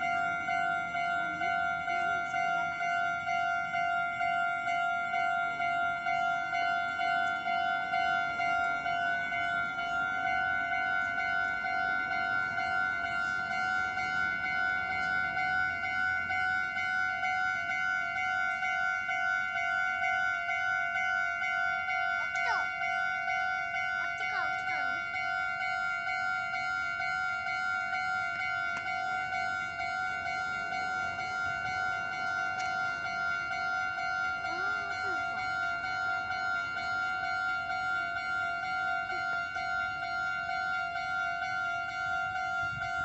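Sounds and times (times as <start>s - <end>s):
level crossing bell ringing: 0.0s - 43.0s.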